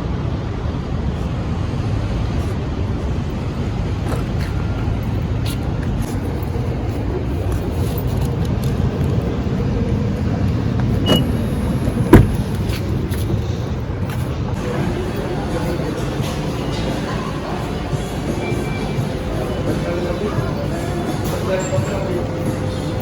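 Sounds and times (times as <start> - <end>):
road vehicle rumble: 0.0 - 23.0.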